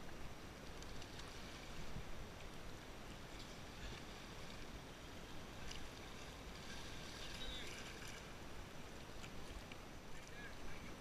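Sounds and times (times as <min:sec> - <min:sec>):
faint river water lapping: 0:00.0 - 0:11.0
kayak splash: 0:00.0 - 0:11.0.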